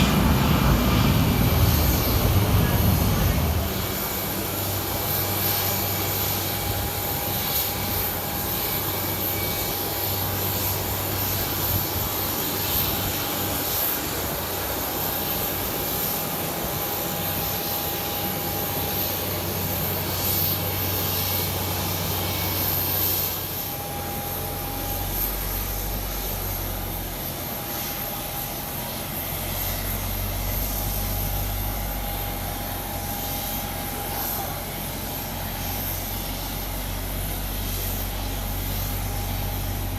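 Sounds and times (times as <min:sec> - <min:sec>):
aircraft engines running: 0:00.0 - 0:39.9
steady whine: 0:00.0 - 0:39.9.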